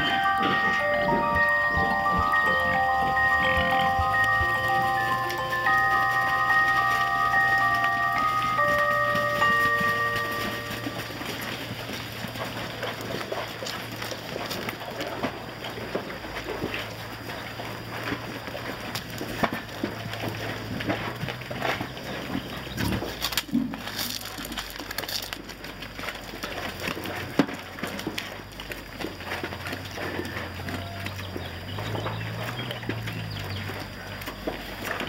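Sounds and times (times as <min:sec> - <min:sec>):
pigs chewing and snuffling: 0:00.0 - 0:35.0.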